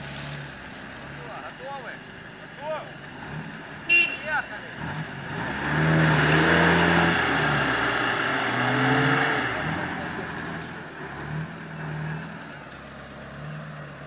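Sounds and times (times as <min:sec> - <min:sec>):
off-road engines revving hard: 0:00.0 - 0:14.0.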